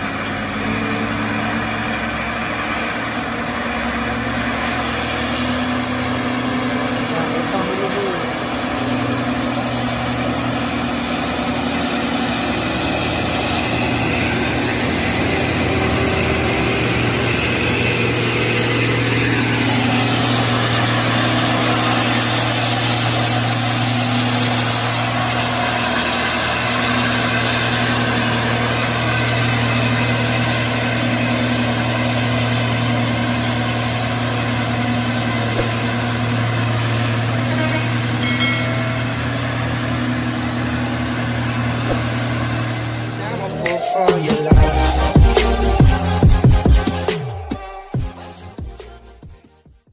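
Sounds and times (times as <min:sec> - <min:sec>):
truck engine running: 0:00.0 - 0:49.9.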